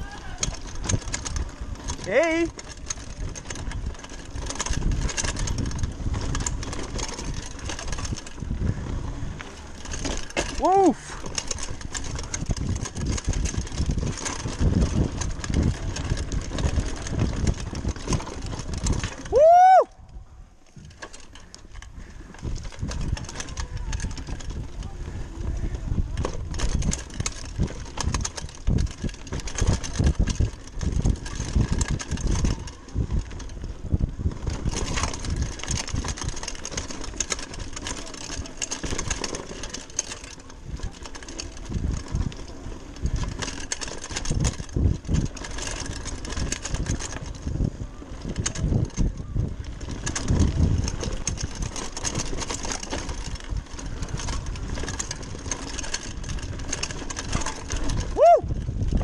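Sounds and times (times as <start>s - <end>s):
bike rattling and knocking: 0.0s - 59.0s
tyres rumbling over dirt: 0.0s - 59.0s
wind buffeting microphone: 0.0s - 59.0s.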